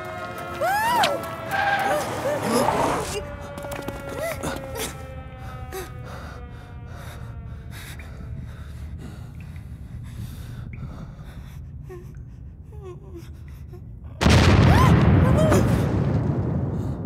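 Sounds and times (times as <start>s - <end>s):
steady low rumble: 3.2s - 17.0s.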